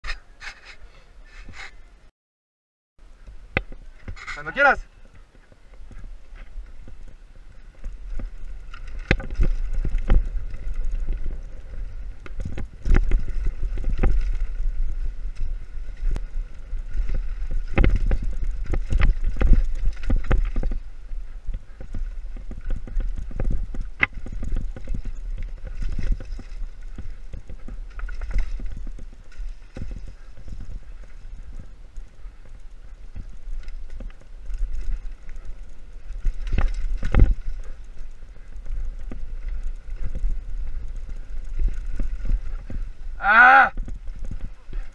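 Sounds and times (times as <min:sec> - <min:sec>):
mountain bike rattling: 0:03.0 - 0:44.9.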